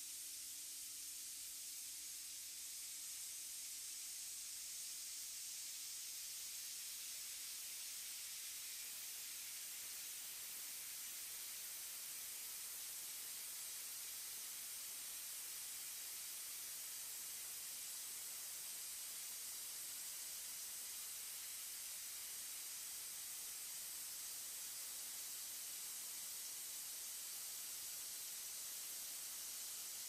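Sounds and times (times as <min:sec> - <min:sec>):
high hiss of spray gun gas jet: 0:00.0 - 0:30.0.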